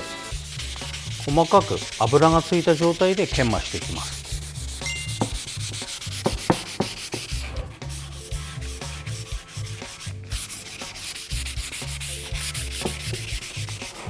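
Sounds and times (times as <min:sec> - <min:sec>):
sandpaper scrubbing wet wood: 0:00.0 - 0:14.0.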